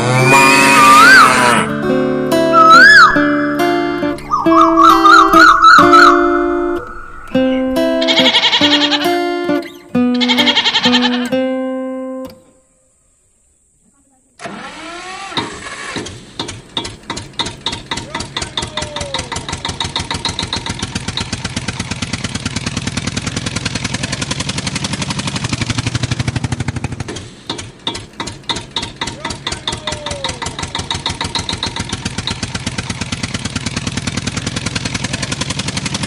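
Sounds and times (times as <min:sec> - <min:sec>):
tractor engine chugging: 0:01.9 - 0:09.4, 0:14.4 - 0:36.0.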